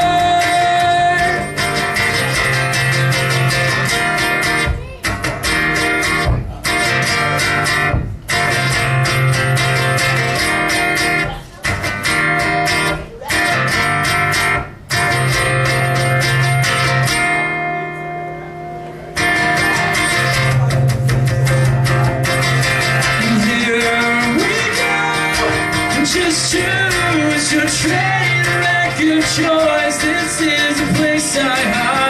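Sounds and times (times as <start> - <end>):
guitar strumming chords: 0.0 - 32.0.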